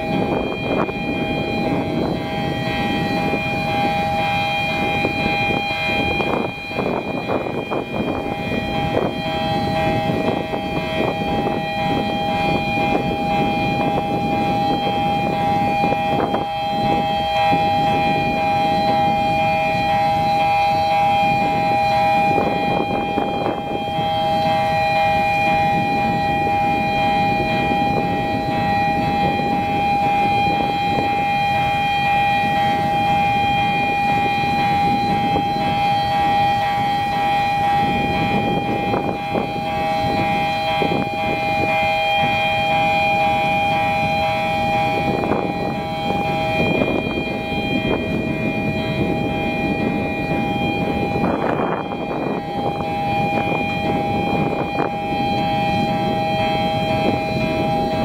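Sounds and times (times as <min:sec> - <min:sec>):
bridge warning siren: 0:00.0 - 0:58.0.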